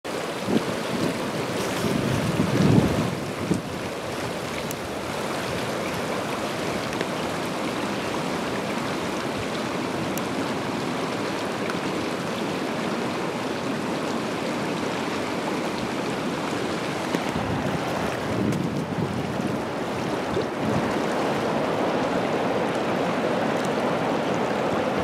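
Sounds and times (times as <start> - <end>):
stream rushing over gravel: 0.1 - 25.0.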